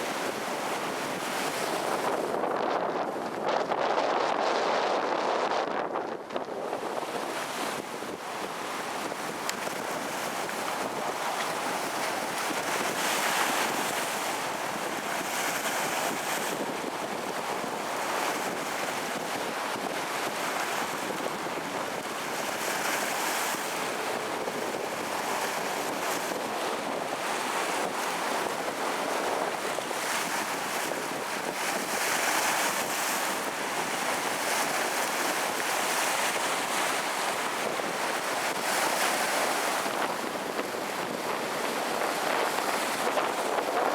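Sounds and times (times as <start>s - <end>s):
rough surf: 0.0s - 43.9s
wind blowing on microphone: 0.0s - 43.9s.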